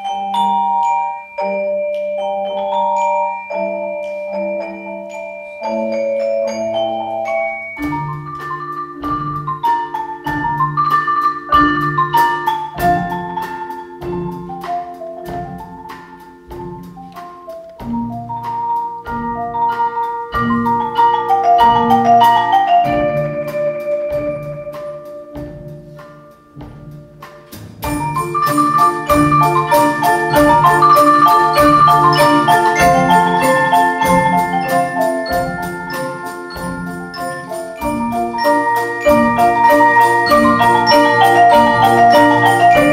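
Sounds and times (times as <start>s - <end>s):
mallet instruments playing: 0.0s - 42.9s
drum strikes: 7.3s - 42.9s.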